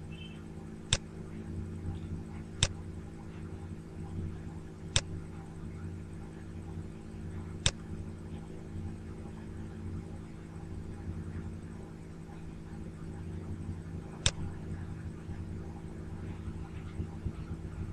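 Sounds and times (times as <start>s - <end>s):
low electrical hum: 0.0s - 17.9s.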